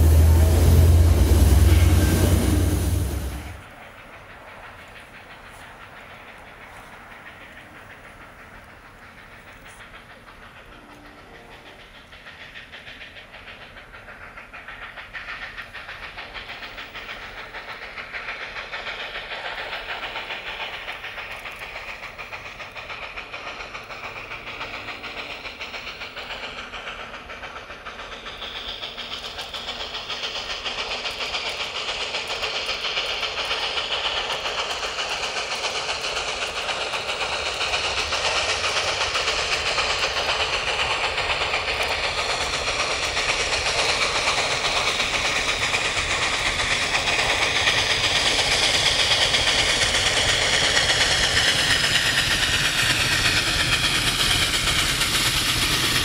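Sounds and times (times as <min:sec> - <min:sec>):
steam hissing: 0:00.0 - 0:56.0
steam locomotive approaching: 0:00.0 - 0:56.0.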